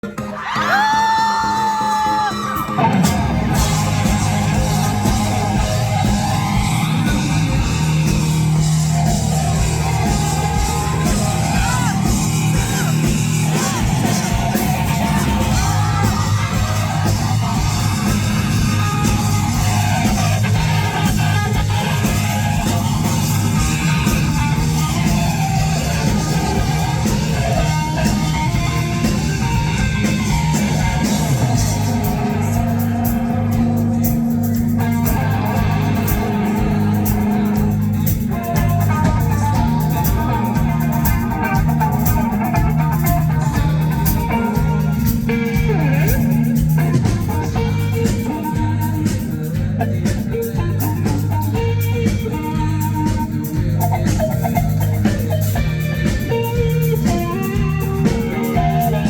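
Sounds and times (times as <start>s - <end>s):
bass guitar: 0.0s - 59.0s
drums: 0.0s - 59.0s
electric guitars: 0.0s - 59.0s.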